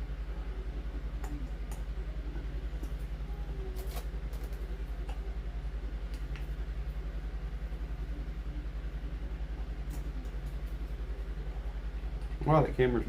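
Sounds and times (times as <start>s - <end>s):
pulsing machine hum: 0.0s - 13.0s.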